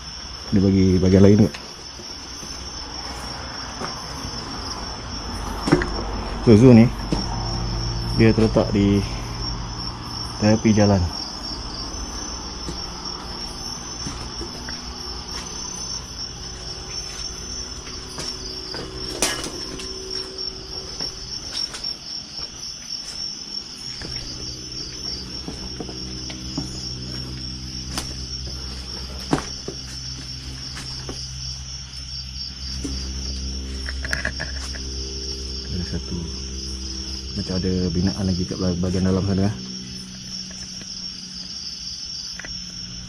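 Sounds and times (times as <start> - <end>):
night insects chirring: 0.0 - 43.0
low steady hum: 1.5 - 43.0.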